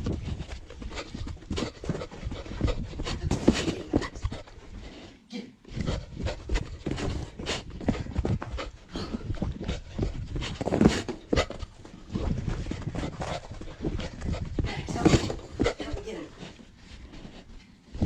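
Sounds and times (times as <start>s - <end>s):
dog breathing: 0.0s - 18.0s.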